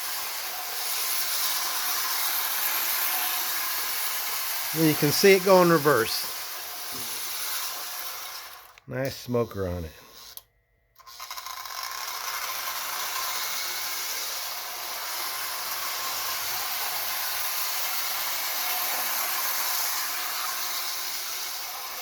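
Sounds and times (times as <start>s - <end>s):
model train rumbling on track: 0.0s - 8.2s, 12.0s - 22.0s.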